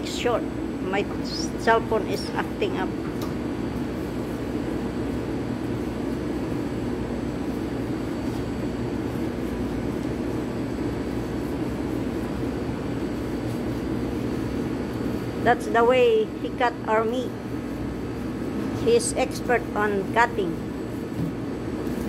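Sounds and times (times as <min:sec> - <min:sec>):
kitchen machinery hum: 0:00.0 - 0:22.0.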